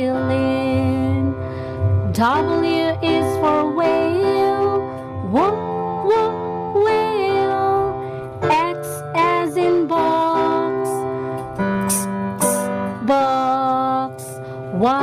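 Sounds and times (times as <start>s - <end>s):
children's music with swooping melody: 0.0s - 15.0s.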